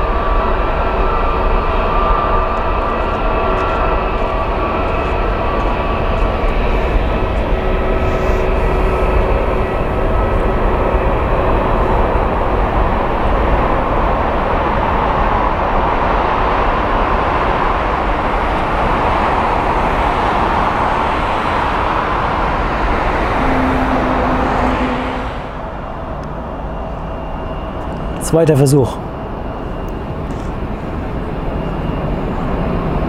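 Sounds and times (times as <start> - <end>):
jet airliner taking off: 0.0 - 33.0.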